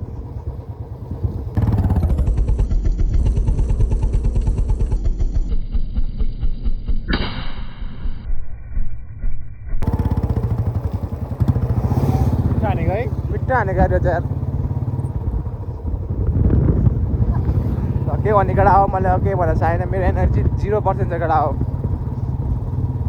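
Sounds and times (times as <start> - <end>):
motorcycle engine running: 0.0 - 7.2, 9.8 - 23.0
exhaust popping and crackling: 0.2 - 7.1, 9.8 - 23.0.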